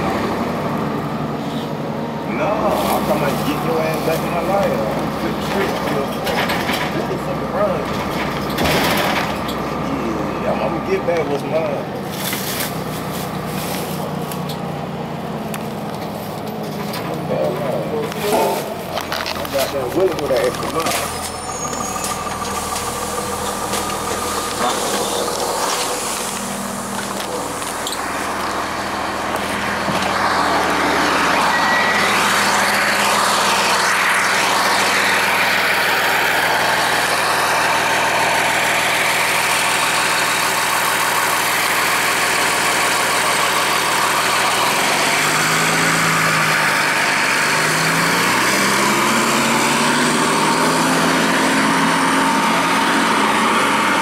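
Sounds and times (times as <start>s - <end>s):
bus diesel engine running: 0.0s - 54.0s
transmission shifting up: 9.2s - 54.0s.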